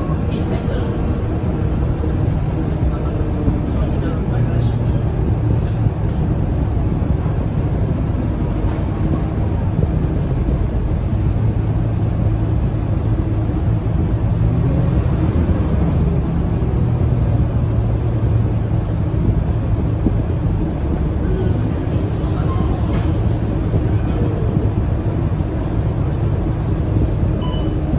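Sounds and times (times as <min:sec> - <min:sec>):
bus diesel engine droning: 0:00.0 - 0:27.9
road rumble: 0:00.0 - 0:27.9.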